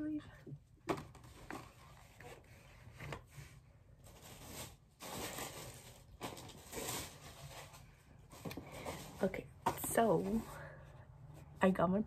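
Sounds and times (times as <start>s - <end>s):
paper and packaging rustling: 0.8s - 10.7s.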